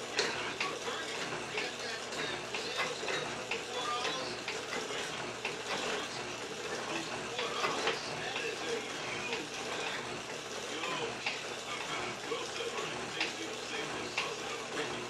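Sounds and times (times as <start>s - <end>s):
metal shaper motor hum: 0.0s - 15.0s
ram stroke clicks: 0.0s - 15.0s.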